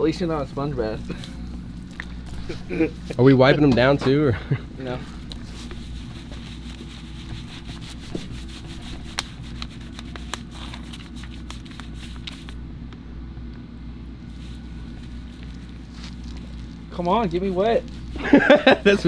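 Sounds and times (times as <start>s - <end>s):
rubbing noises: 0.0s - 4.2s, 4.8s - 12.6s, 14.3s - 19.0s
low motor hum: 0.0s - 19.0s.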